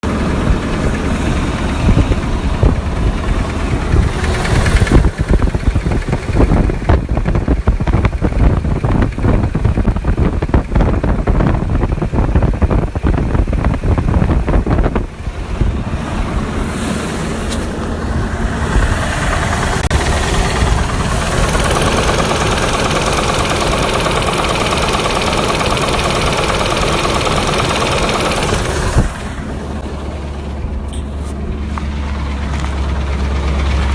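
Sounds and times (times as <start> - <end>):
car engine knocking tick: 0.1 - 15.0, 18.8 - 29.2, 31.6 - 33.9.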